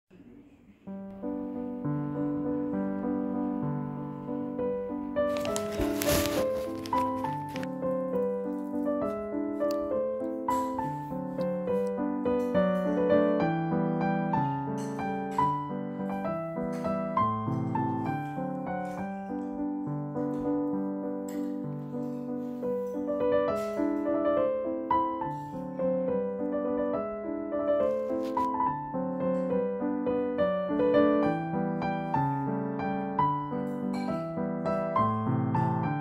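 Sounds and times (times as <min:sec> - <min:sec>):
piano music: 0:00.8 - 0:36.0.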